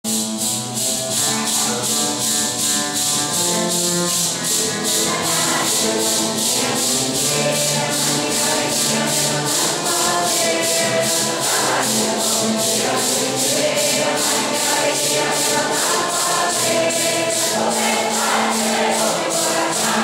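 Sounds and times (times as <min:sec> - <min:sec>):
maracas shaken in a beat: 0:00.1 - 0:20.0.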